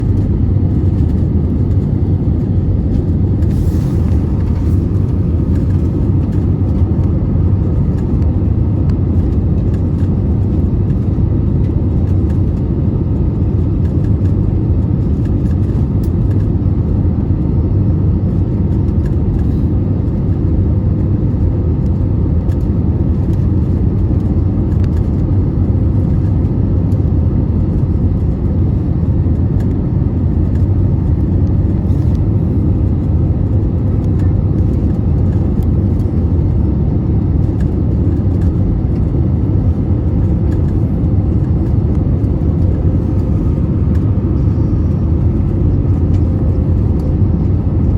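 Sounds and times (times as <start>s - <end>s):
airliner engine rumble in cabin: 0.0s - 47.9s.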